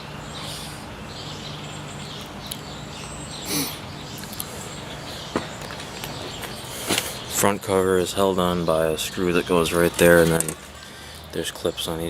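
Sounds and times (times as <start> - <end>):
birds chirping faintly: 0.0 - 12.0
steady low hum: 0.0 - 12.0.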